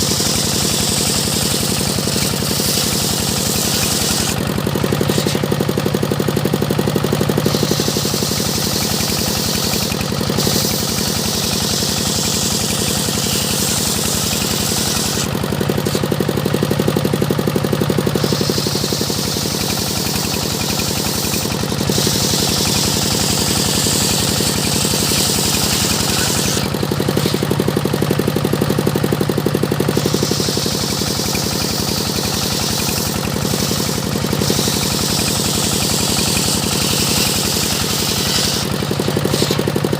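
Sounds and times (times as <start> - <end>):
saw blade cutting wood: 0.0 - 39.9
sawmill engine droning: 0.0 - 39.9.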